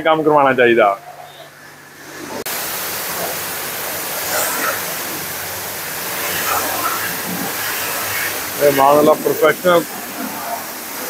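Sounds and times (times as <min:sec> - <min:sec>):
high-pressure water spray hissing: 0:01.2 - 0:11.0.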